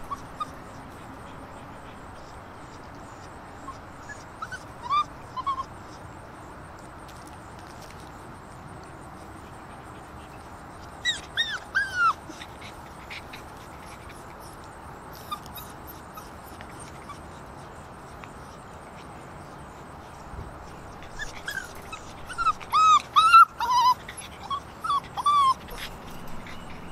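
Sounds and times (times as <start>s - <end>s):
puppies whining and yipping: 0.0s - 6.1s, 10.2s - 26.9s.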